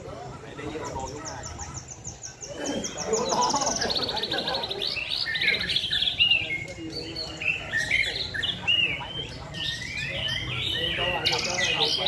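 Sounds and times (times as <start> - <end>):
bird trills: 0.0 - 12.0
birds singing whistled phrases: 0.0 - 12.0.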